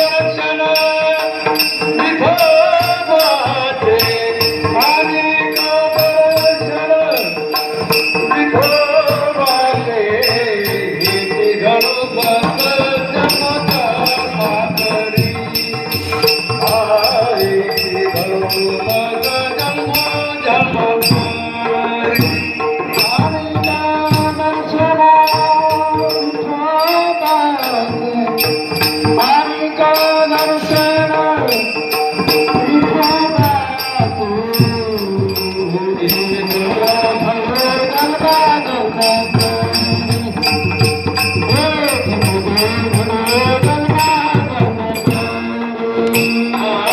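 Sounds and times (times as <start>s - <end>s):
drum beat: 0.0s - 45.6s
bending melody over held tones: 0.0s - 46.9s
hand cymbals jingling: 0.0s - 46.9s.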